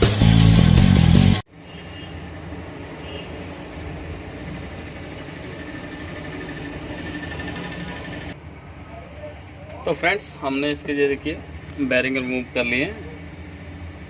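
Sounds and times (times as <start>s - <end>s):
exhaust fan running: 2.3s - 14.0s.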